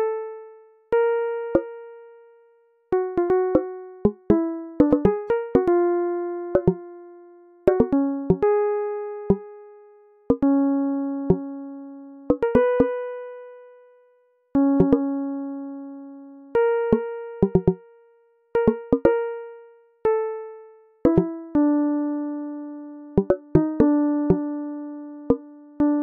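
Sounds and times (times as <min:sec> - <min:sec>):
solo keyboard melody: 0:00.0 - 0:26.0.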